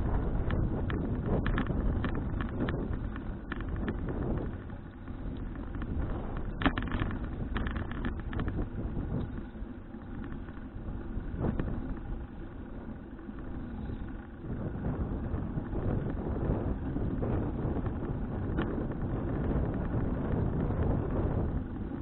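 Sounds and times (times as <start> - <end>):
bike rattling over bumps: 0.0 - 22.0
wind and tyres on road: 0.0 - 22.0.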